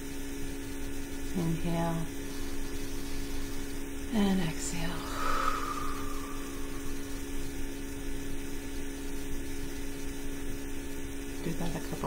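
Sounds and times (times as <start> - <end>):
constant hiss: 0.0 - 12.0
electrical hum: 0.0 - 12.0.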